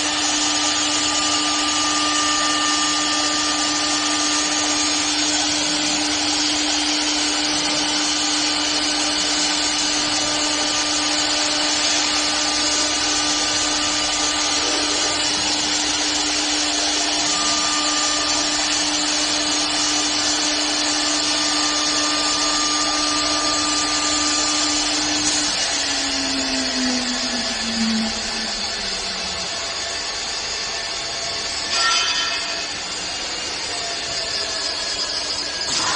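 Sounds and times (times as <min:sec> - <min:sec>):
wood lathe machining wood: 0:00.0 - 0:35.9
motor tone: 0:01.1 - 0:35.9.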